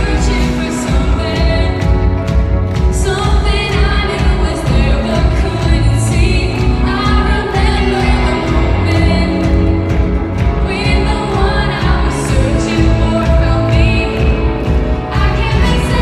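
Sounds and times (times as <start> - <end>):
live band with drums and bass: 0.0 - 16.0
woman singing into microphone: 0.0 - 16.0.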